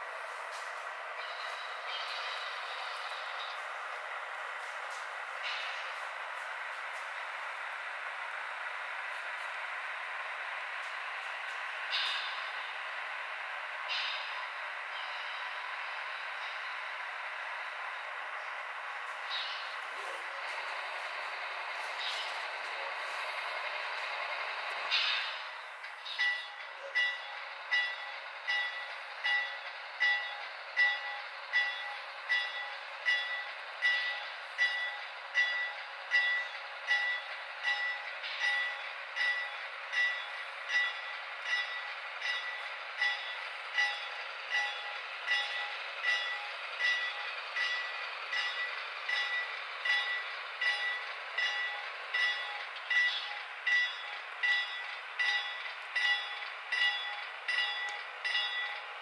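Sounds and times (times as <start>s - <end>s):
model locomotive bell ringing: 0.0s - 8.3s, 9.1s - 59.0s
diesel engine sound: 0.0s - 59.0s.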